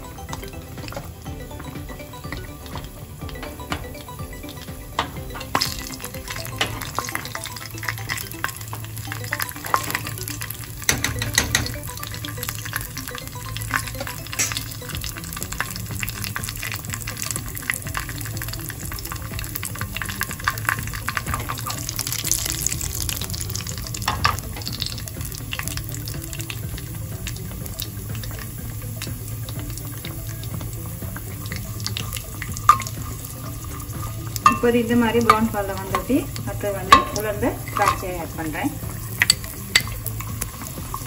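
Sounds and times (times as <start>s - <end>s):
nuts frying sizzle: 0.0s - 41.0s.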